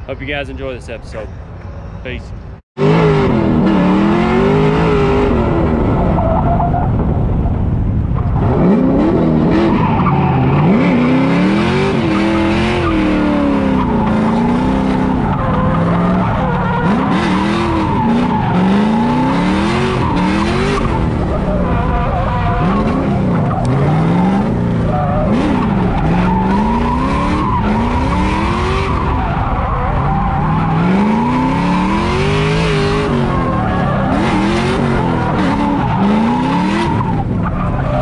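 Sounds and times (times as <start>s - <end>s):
tires screeching on asphalt: 0.0s - 38.0s
car engine revving: 2.8s - 38.0s.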